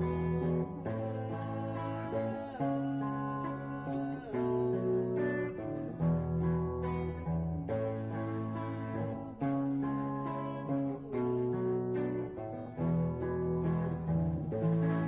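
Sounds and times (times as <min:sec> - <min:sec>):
guitar playing slow chords: 0:00.0 - 0:15.0.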